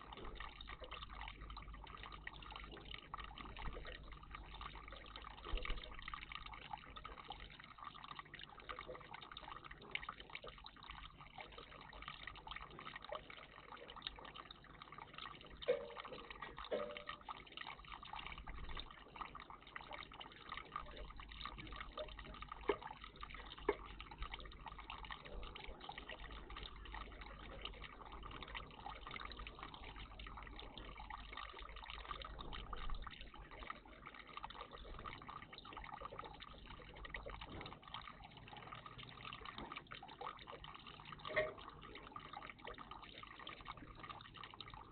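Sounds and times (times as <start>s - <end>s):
water trickling in bird bath: 0.0s - 44.9s.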